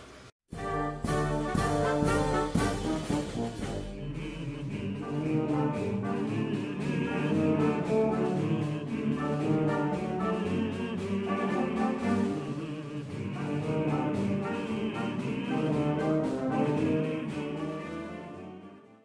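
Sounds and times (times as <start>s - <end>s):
brass band playing: 0.5s - 19.0s.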